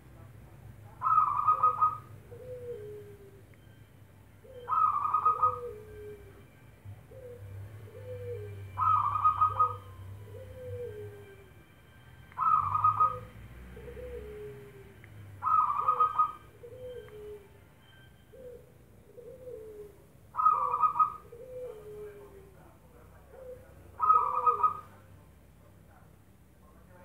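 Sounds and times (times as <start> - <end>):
dove singing: 0.2 - 25.1.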